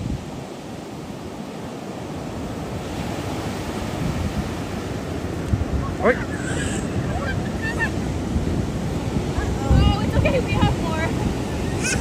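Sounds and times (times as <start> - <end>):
ocean surf breaking: 0.0 - 12.0
wind rumbling on microphone: 0.0 - 12.0.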